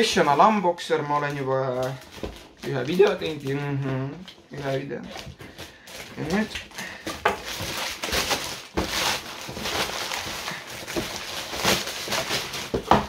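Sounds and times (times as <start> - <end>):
plastic mailer bag rustling: 0.0 - 13.0.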